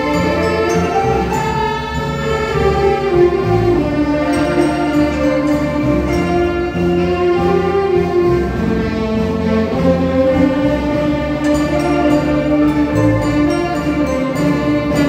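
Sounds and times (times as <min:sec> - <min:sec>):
band playing instrumental music: 0:00.0 - 0:15.0
gliding melody line: 0:00.0 - 0:15.0.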